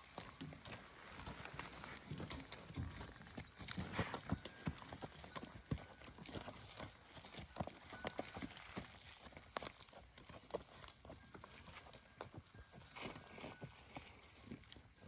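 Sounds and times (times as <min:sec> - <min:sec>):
horse hoof clops: 0:00.0 - 0:15.0.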